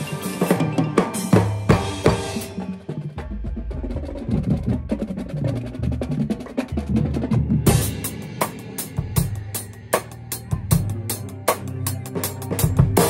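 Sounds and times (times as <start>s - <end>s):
drum set hits: 0.0s - 13.0s
marching band held low notes: 0.0s - 13.0s.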